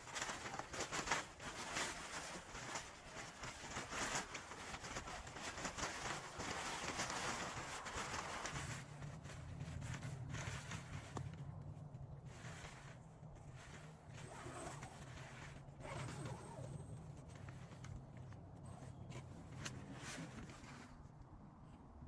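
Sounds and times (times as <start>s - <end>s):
rasping strokes and rustling: 0.0s - 21.4s
low steady hum: 0.0s - 22.0s.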